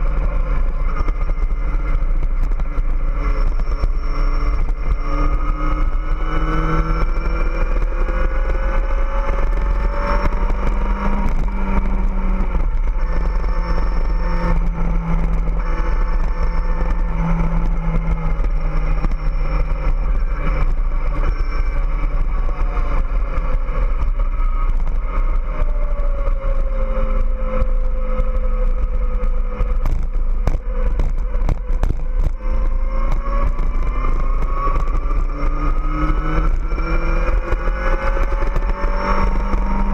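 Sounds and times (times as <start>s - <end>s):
low wind rumble on microphone: 0.0s - 39.9s.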